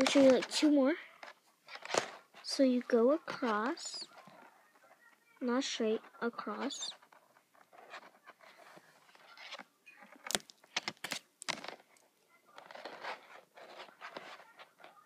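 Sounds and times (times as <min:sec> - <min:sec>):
plastic lacing rustling and scraping: 0:00.0 - 0:05.0, 0:06.0 - 0:15.0.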